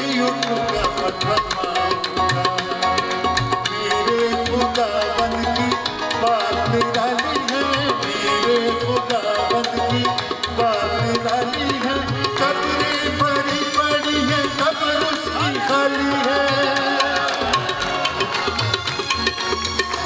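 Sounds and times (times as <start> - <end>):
harmonium and keyboard melody: 0.0 - 20.0
tabla playing fast rhythm: 0.0 - 20.0.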